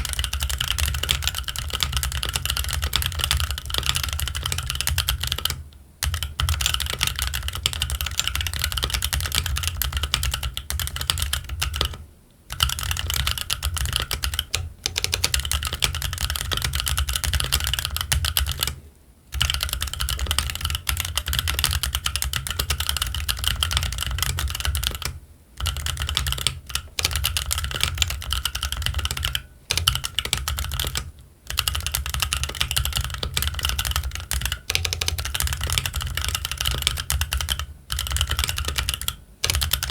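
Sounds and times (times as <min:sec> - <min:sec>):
fast mechanical keyboard typing: 0:00.0 - 0:18.8, 0:19.4 - 0:39.9.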